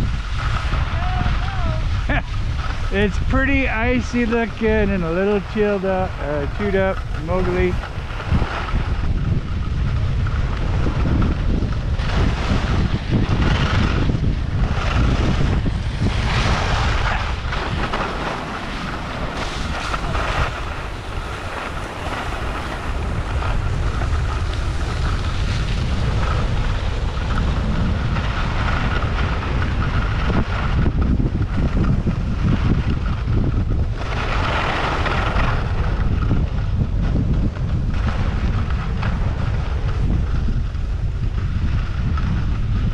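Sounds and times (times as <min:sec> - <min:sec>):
skis scraping over icy snow: 0:00.0 - 0:42.9
wind buffeting microphone: 0:00.0 - 0:42.9.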